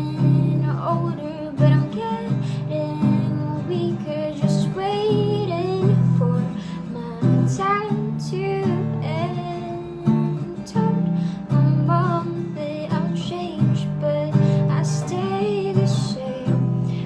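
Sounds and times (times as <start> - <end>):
acoustic guitar strumming: 0.0 - 17.0
woman singing: 0.0 - 17.0.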